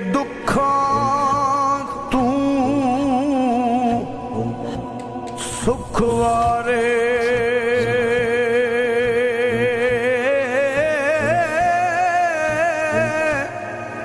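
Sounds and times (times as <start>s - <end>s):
person singing a long wavering note: 0.0s - 14.0s.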